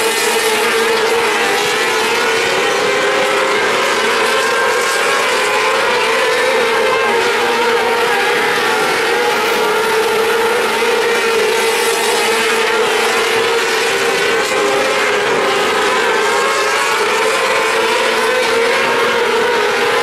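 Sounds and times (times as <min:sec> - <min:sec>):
racing car engines droning: 0:00.0 - 0:20.0.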